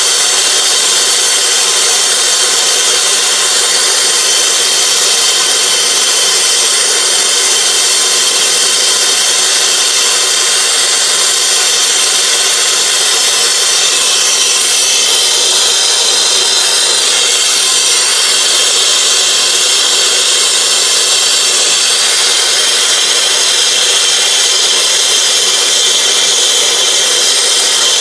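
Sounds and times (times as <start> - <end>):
torch flame hissing: 0.1 - 28.0.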